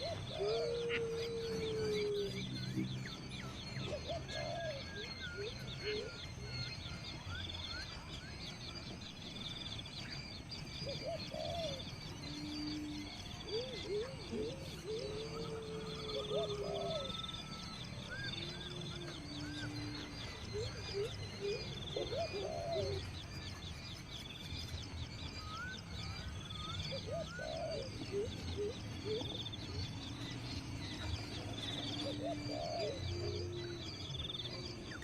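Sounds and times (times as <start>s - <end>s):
birds chirping and trilling: 0.0s - 35.0s
long low whistles: 0.0s - 35.0s
steady low hum: 0.0s - 35.0s.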